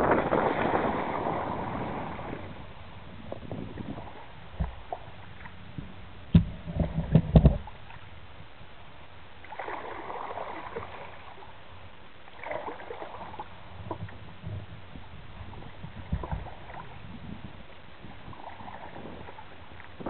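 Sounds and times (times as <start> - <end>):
kayak paddle strokes in water: 0.0 - 8.4, 9.4 - 20.0
paddle blade splashing: 0.0 - 20.0.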